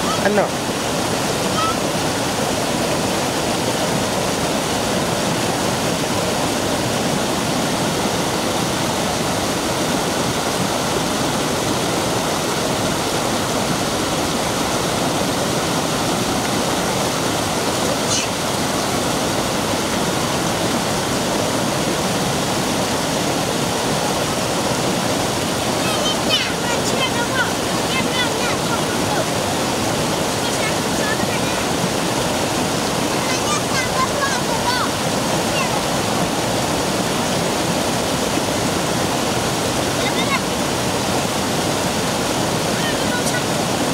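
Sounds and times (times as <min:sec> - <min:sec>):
stream rushing over rock: 0:00.0 - 0:43.9.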